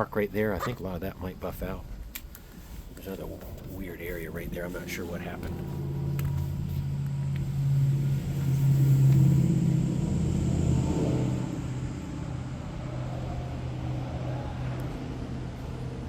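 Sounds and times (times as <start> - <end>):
car engine running: 2.4 - 16.0.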